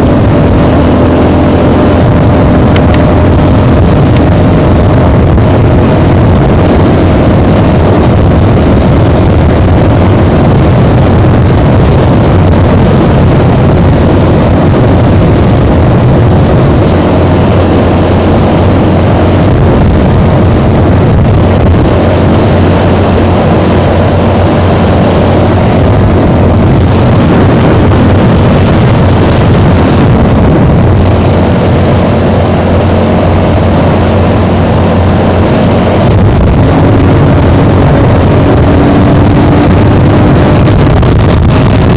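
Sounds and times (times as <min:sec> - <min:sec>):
vehicle engine at speed: 0:00.0 - 0:41.9
wind on microphone: 0:00.0 - 0:41.9.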